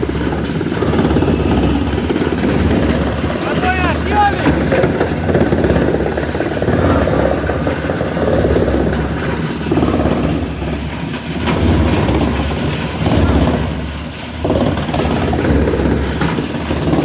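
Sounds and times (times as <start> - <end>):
large engine running: 0.0 - 17.0.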